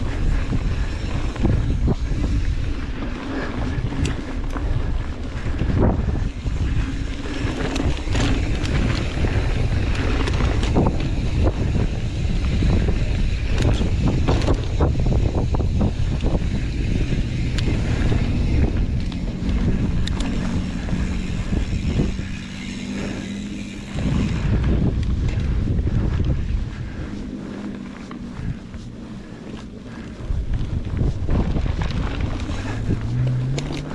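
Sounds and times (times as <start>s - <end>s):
bike clicks and rattles: 0.0s - 33.9s
bike tyres rolling on dirt: 0.0s - 33.9s
wind on microphone: 0.0s - 33.9s.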